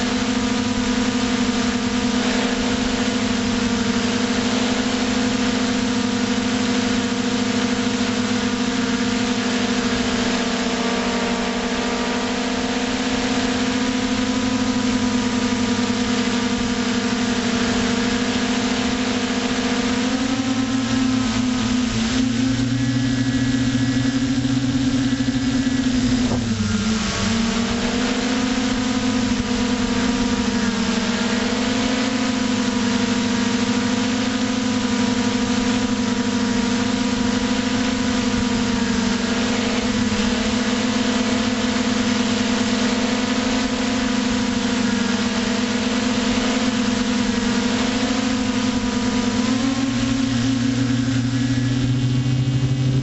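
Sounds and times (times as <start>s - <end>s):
drone motors humming: 0.0s - 53.0s.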